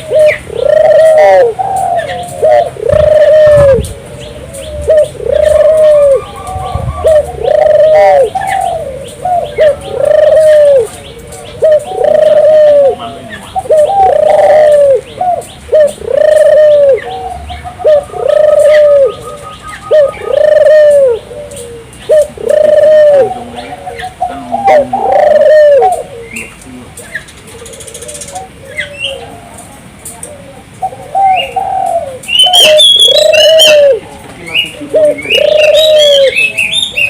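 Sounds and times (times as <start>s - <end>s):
dove cooing: 0.0s - 37.0s
small birds chirping: 0.0s - 37.0s.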